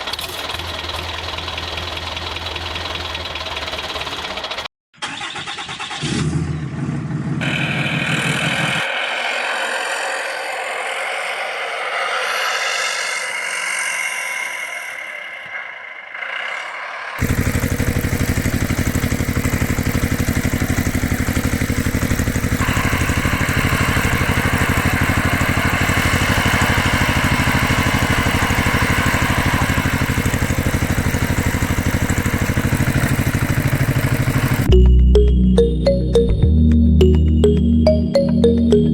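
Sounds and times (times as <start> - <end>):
engine running with pulsing beat: 7.3 - 38.9.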